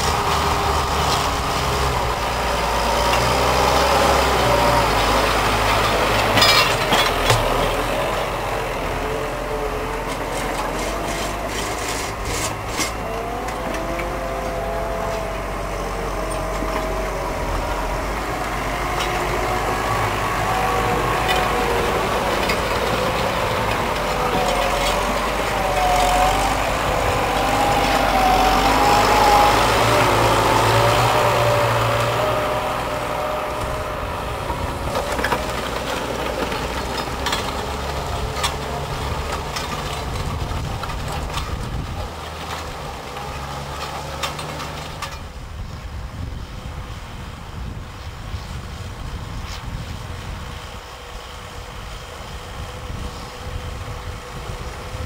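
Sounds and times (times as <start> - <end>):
tractor diesel engines under load: 0.0 - 55.0.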